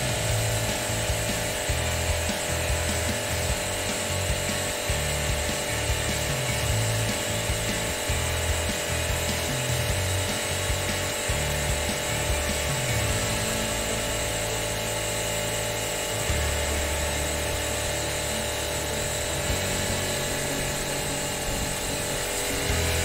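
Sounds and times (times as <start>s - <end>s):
background music: 0.0s - 23.0s
machine motor humming: 0.0s - 23.0s.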